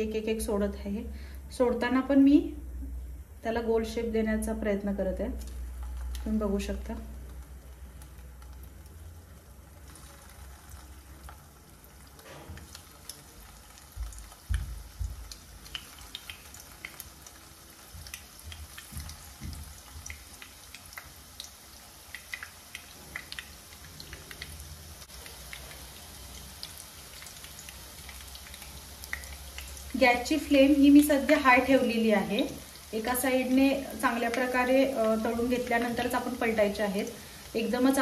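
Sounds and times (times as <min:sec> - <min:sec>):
deep-frying sizzle and pops: 0:04.4 - 0:38.0.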